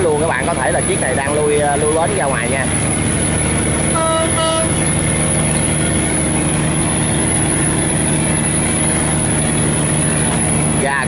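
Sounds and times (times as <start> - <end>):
diesel engine low hum: 0.0 - 11.0.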